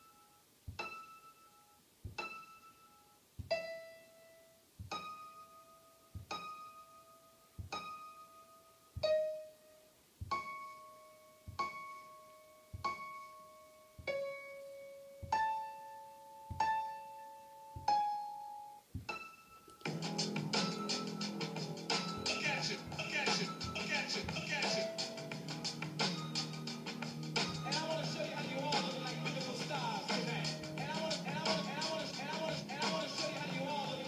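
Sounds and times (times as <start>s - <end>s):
computer piano notes: 0.0s - 34.0s.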